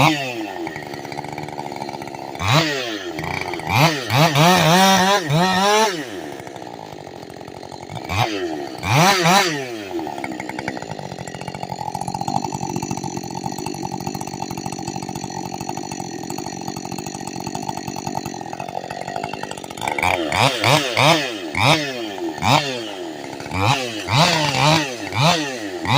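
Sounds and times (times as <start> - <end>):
chainsaw idling and revving: 0.0 - 25.9.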